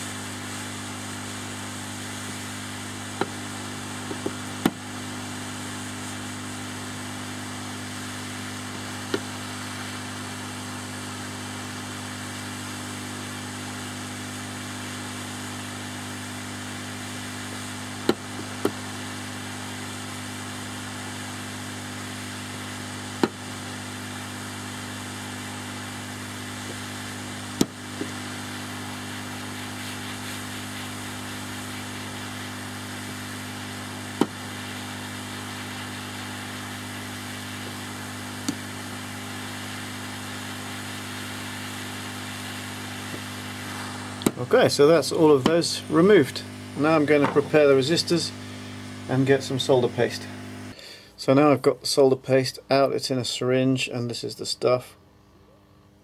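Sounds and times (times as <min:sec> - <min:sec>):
hot-air gun blowing hiss and hum: 0:00.0 - 0:51.6.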